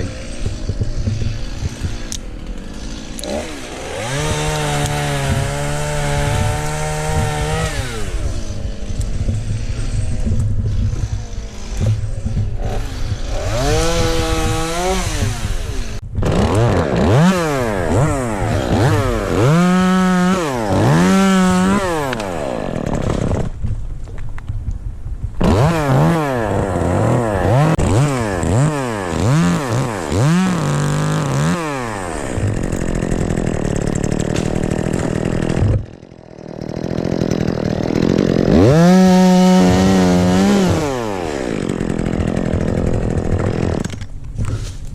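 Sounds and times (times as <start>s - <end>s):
chainsaw revving: 0.0s - 23.6s, 25.4s - 44.6s.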